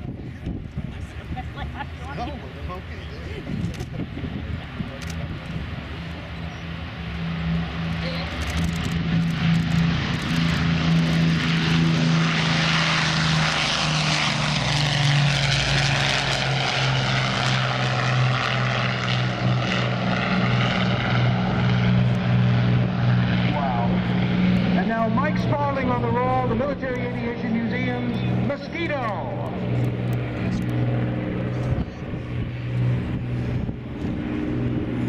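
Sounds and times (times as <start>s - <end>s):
propeller aircraft engines flypast: 0.0s - 35.0s.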